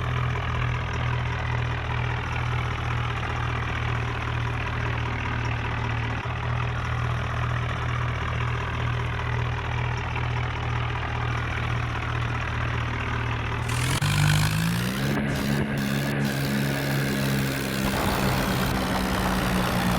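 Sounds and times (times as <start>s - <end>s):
tractor engine idling: 0.0s - 19.9s.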